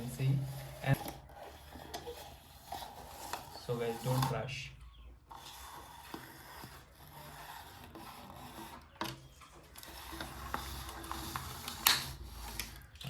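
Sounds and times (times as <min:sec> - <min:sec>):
blade scraping plastic: 0:00.0 - 0:13.0.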